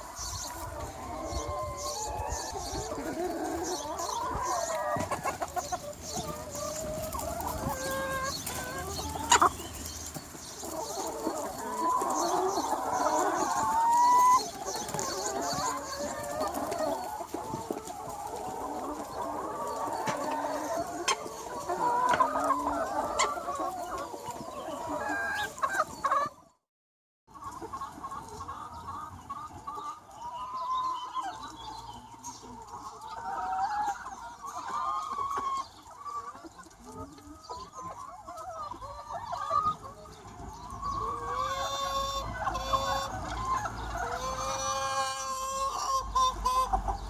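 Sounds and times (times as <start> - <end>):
chickens clucking and calling: 0.0 - 26.6, 27.3 - 47.0.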